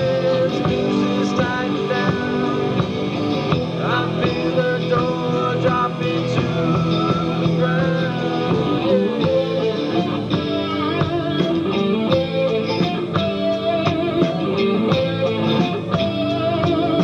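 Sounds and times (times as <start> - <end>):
bending lead guitar line: 0.0 - 17.0
rock band playing: 0.0 - 17.0.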